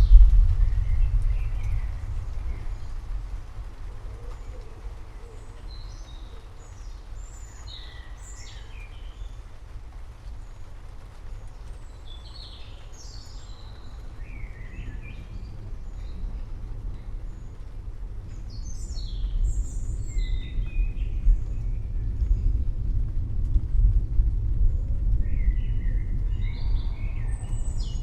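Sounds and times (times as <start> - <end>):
low rumble: 0.0 - 12.6, 13.2 - 28.0
rain hiss: 0.0 - 28.0
songbirds chirping: 0.0 - 28.0.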